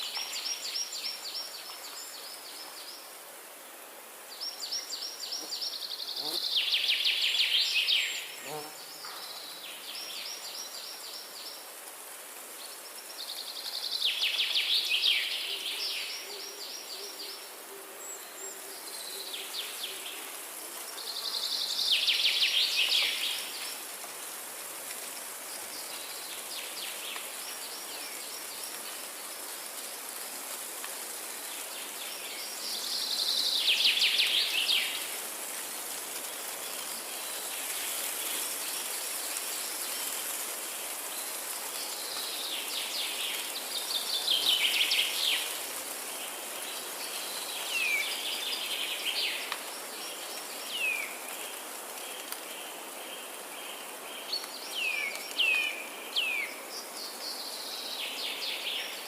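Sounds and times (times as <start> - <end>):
high insect hiss: 0.0 - 59.0.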